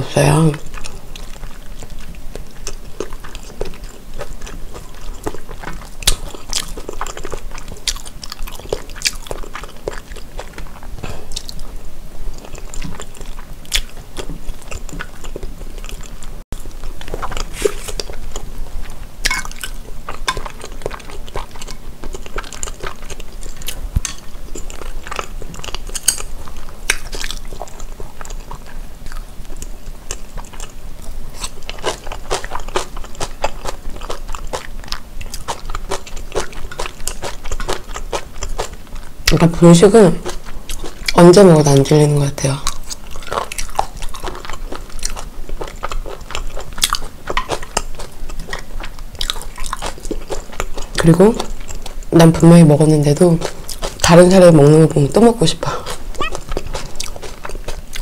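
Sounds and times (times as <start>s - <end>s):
close-miked chewing and biting: 0.4s - 58.0s
crunching food: 0.6s - 58.0s.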